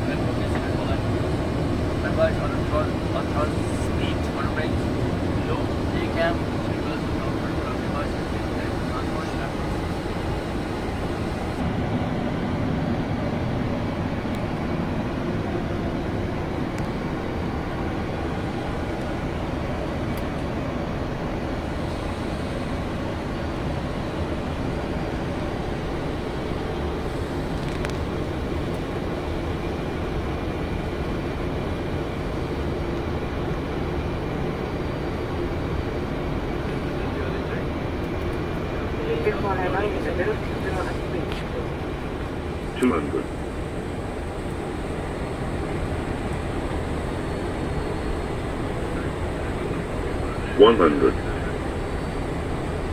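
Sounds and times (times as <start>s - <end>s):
airflow and engine noise in cockpit: 0.0s - 52.9s.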